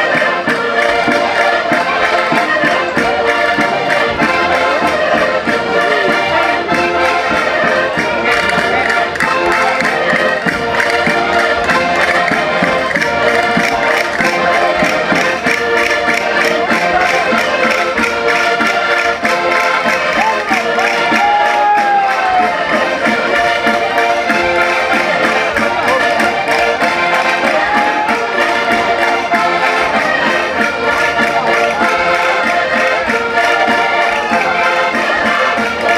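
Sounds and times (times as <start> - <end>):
concertinas playing folk dance music: 0.0 - 35.9.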